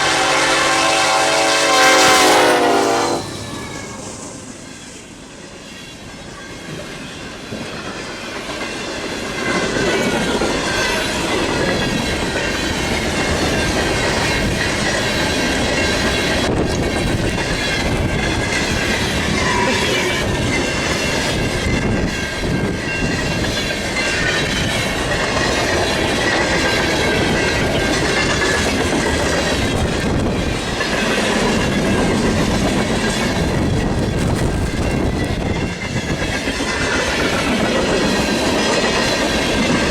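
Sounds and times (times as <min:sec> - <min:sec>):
freight train rumbling and rattling: 0:00.0 - 0:39.9
wheels clicking over rail joints: 0:06.4 - 0:39.9.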